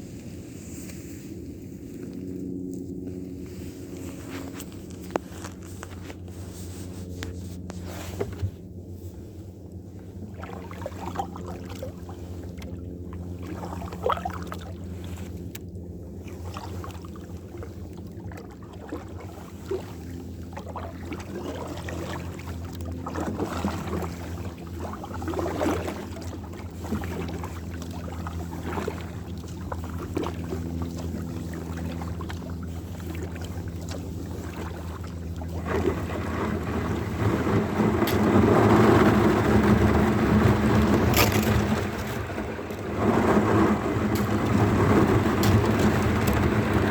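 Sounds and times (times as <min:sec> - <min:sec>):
low hum: 0:00.0 - 0:46.9
kayak paddle splashing in water: 0:06.7 - 0:46.9.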